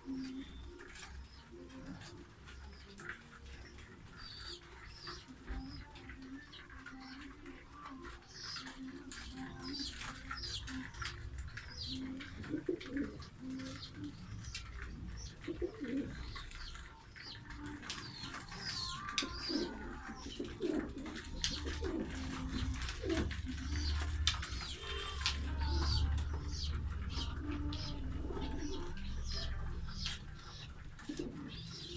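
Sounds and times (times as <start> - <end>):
pigeons cooing: 0.0 - 31.9
small birds chirping: 0.0 - 31.9.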